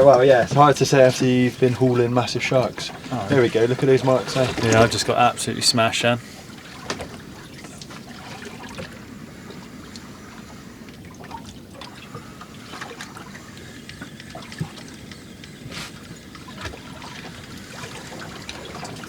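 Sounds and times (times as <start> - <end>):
small splashes: 0.0 - 19.0
water lapping against boat hull: 0.0 - 19.0.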